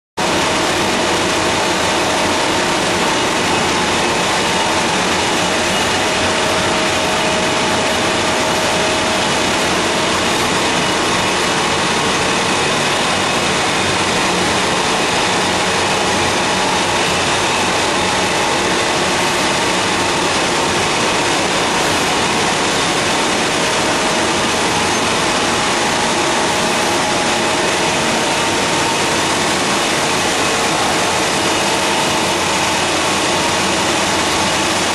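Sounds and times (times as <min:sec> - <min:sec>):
paper machine running: 0:00.2 - 0:34.9.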